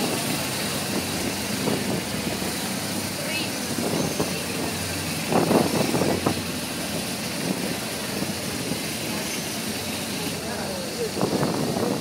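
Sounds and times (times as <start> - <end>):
car engine humming: 0.0 - 12.0
road noise: 0.0 - 12.0.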